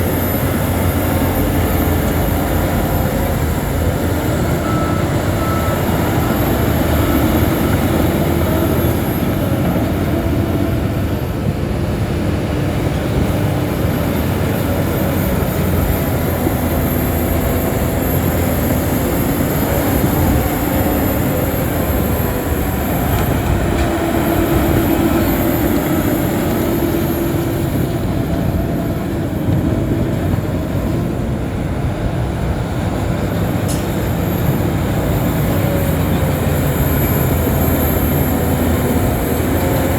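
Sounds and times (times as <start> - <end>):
bulldozer diesel engine running: 0.0 - 39.9
steel tracks clattering and squealing: 0.0 - 39.9.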